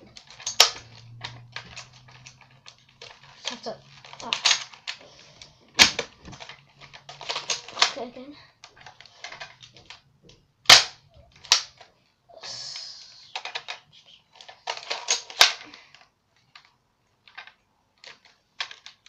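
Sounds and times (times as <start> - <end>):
toy blaster plastic clacks: 0.1 - 10.0, 10.7 - 11.9, 12.8 - 16.7, 17.3 - 19.0.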